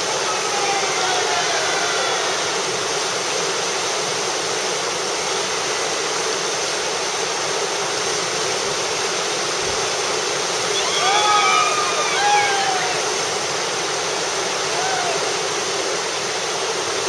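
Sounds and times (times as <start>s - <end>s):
whitewater rushing: 0.0s - 17.0s.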